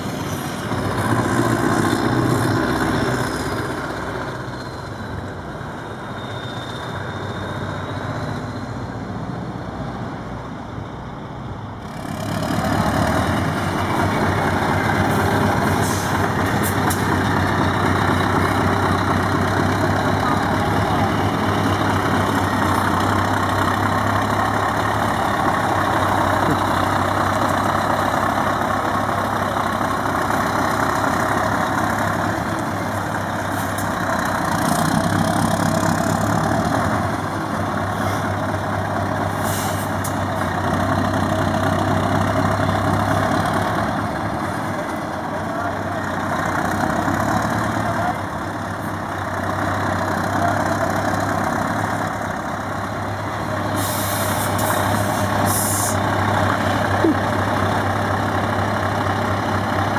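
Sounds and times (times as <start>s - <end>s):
diesel truck engine running: 8.0s - 59.9s.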